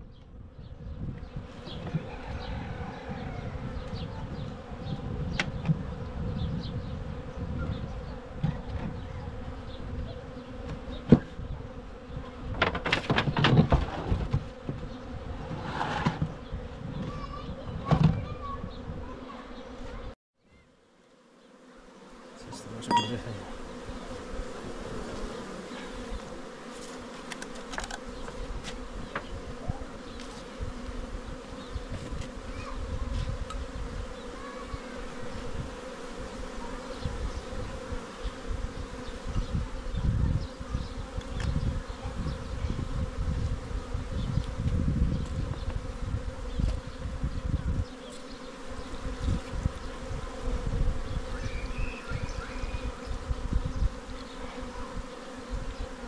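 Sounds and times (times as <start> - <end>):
honeybees buzzing: 0.2 - 56.0.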